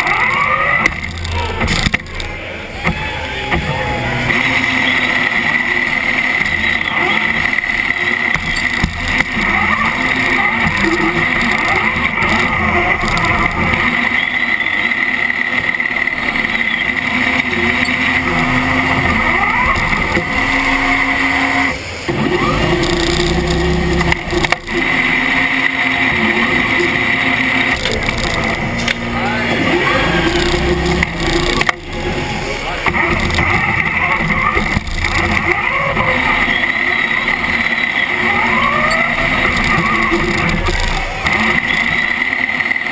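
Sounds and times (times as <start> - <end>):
robot motors whining: 0.0 - 42.9
steady high whine: 0.0 - 42.9.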